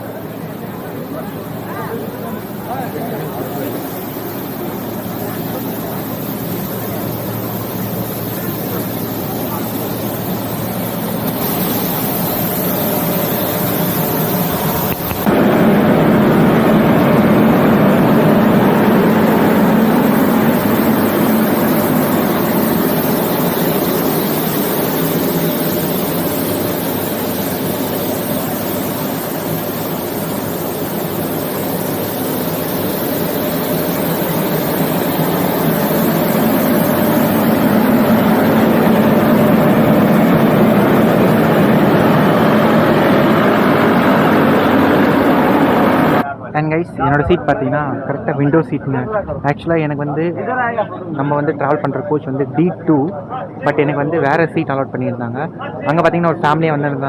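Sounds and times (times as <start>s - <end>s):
steam train running: 0.0s - 46.2s.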